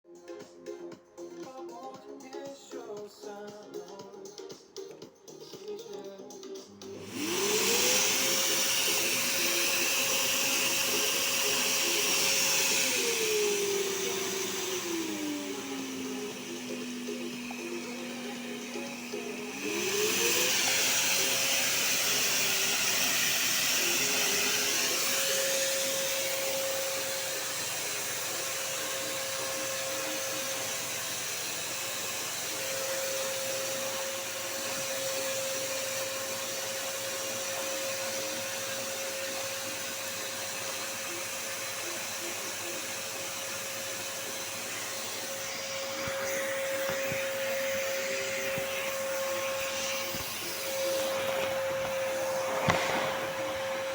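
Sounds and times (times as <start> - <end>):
vacuum cleaner motor whine: 6.9 - 53.9.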